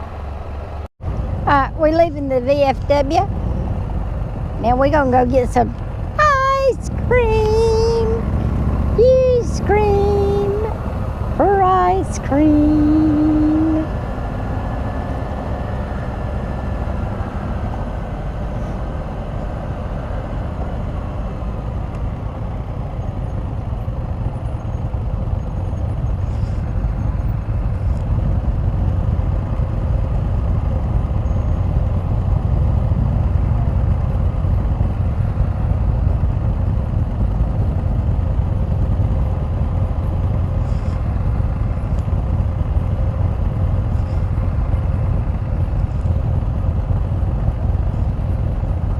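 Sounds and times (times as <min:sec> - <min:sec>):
motorcycle engine rumble: 0:00.0 - 0:48.9
road noise: 0:00.0 - 0:48.9.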